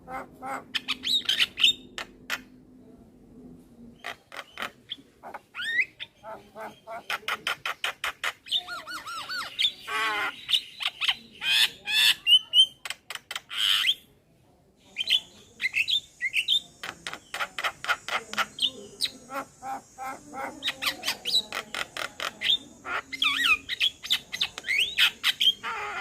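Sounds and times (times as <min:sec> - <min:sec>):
myna bird singing: 0:00.0 - 0:02.6, 0:03.9 - 0:14.1, 0:14.8 - 0:26.0.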